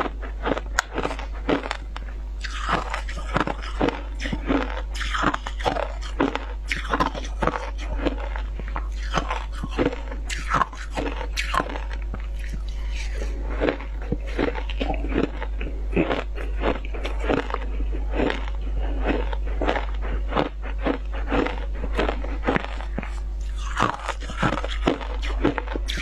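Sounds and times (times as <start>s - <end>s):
low hum: 0.0s - 26.0s
crunching ice: 2.4s - 26.0s.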